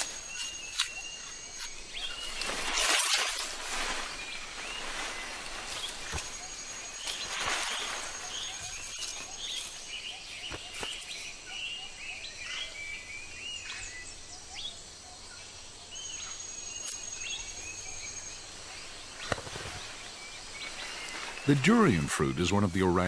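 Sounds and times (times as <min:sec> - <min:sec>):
background hiss: 0:00.0 - 0:23.0
forest birds chirping: 0:00.0 - 0:23.0
high insect whine: 0:00.0 - 0:23.0.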